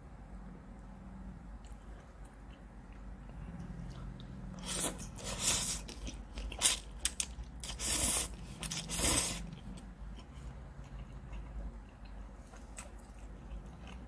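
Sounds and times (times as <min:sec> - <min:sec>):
person chewing: 0:01.6 - 0:14.0.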